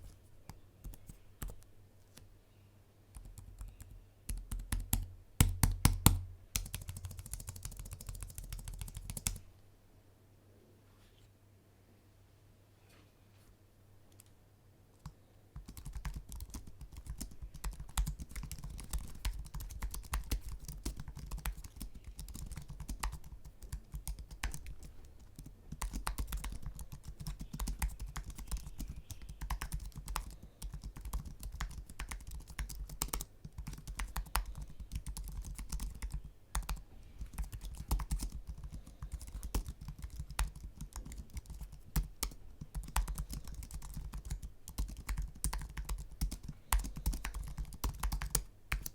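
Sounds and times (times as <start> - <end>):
keyboard typing: 3.1 - 9.4, 15.0 - 48.9.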